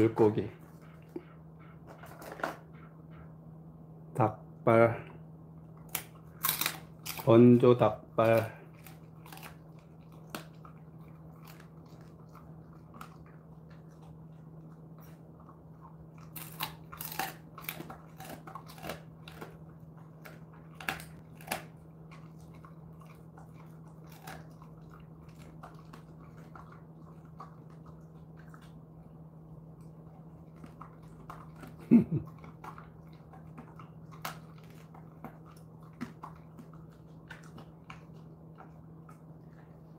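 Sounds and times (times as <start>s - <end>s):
dog chewing and crunching: 0.0s - 3.3s, 5.6s - 39.9s.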